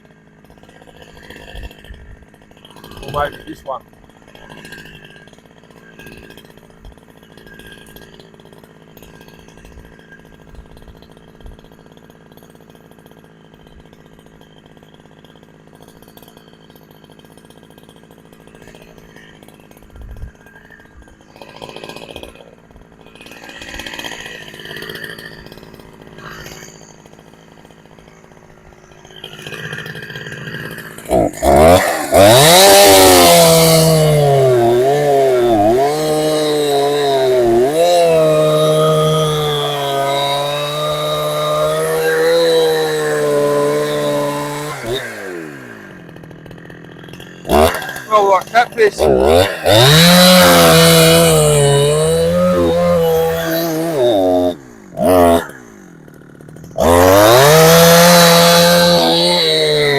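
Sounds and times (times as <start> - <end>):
two-stroke chainsaw revving: 0.0 - 59.9.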